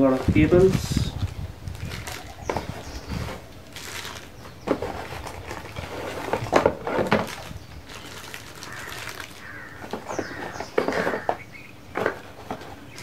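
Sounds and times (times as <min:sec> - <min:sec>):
birds chirping faintly: 0:00.0 - 0:13.0
packaging rustling: 0:00.1 - 0:11.3.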